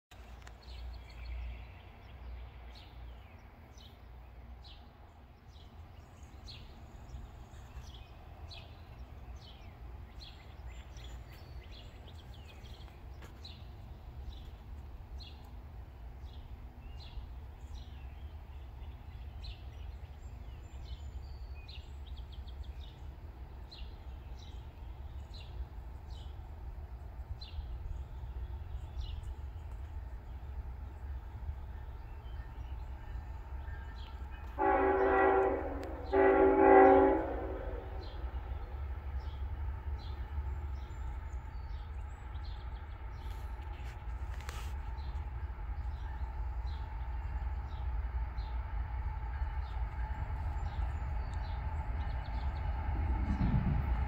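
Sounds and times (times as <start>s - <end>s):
low outdoor rumble: 0.1s - 54.0s
small birds chirping: 0.1s - 54.0s.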